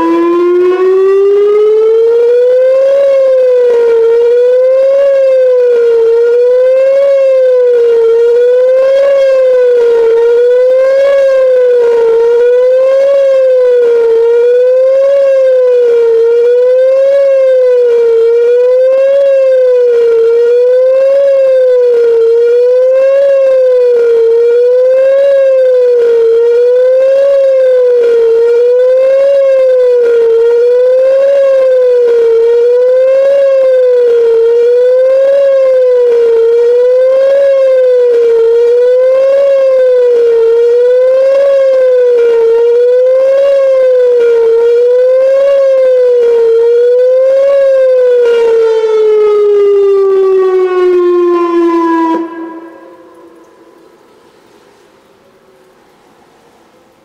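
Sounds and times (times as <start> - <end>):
wavering electronic siren: 0.0 - 54.2.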